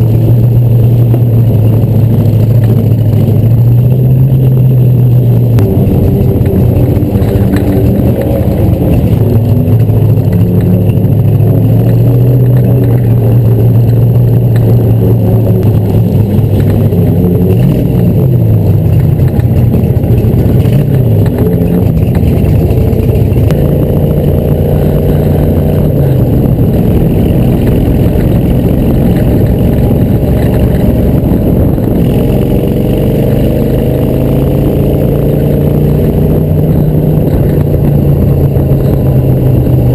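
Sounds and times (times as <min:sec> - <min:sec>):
race car engine driving: 0:00.0 - 0:39.9.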